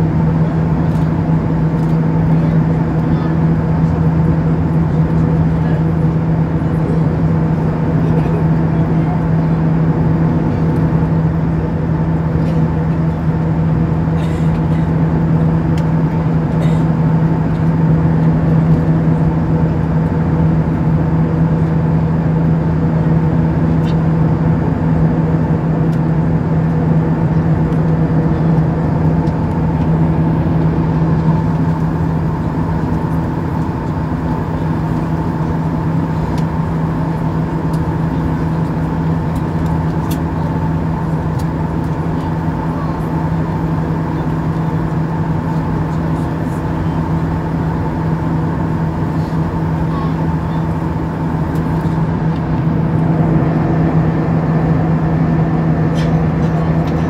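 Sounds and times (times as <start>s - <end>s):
aircraft cabin engine and air noise: 0.0s - 57.0s
constant low hum: 0.0s - 57.0s.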